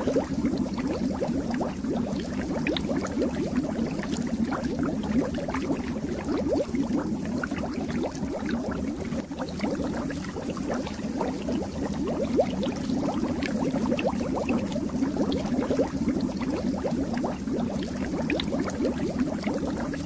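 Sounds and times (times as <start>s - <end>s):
fish tank water bubbling: 0.0s - 20.0s.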